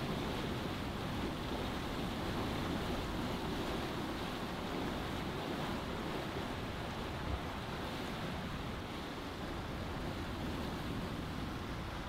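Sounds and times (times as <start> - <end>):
water rushing along hull: 0.0 - 12.0
wind over microphone: 0.0 - 12.0.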